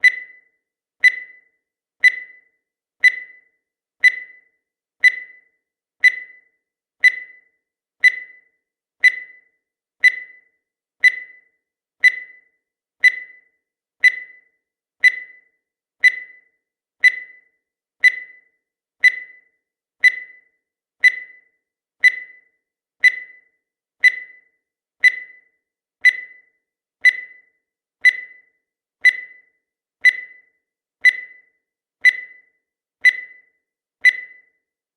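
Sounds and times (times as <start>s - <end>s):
high electronic timer pings: 0.0s - 34.7s.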